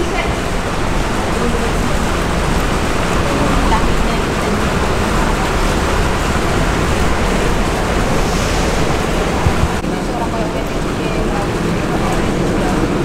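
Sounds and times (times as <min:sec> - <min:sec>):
fountain water splashing into basin: 0:00.0 - 0:13.0.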